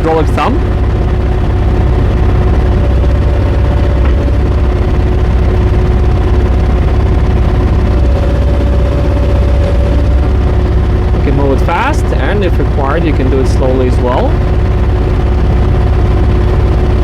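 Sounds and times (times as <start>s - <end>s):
diesel engine running: 0.0s - 17.0s
hydraulic whine: 0.0s - 17.0s.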